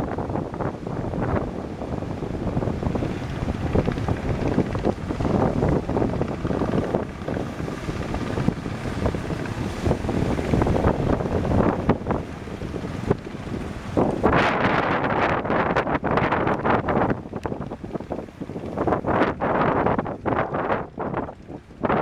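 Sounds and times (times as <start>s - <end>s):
surf rushing: 0.0s - 22.0s
wind gusting over microphone: 0.0s - 22.0s.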